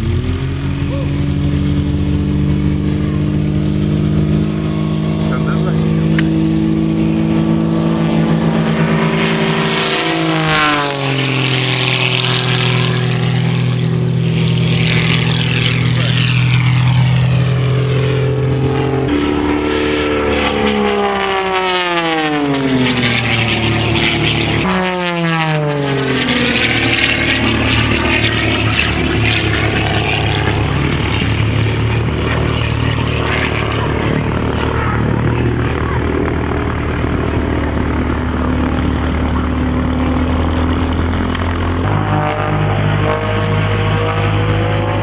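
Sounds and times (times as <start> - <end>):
plane engine and propeller: 0.0 - 45.0.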